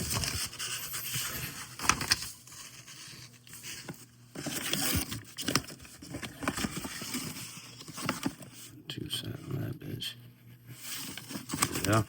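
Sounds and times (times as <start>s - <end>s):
packaging rustling and crinkling: 0.0s - 8.6s, 10.8s - 12.0s.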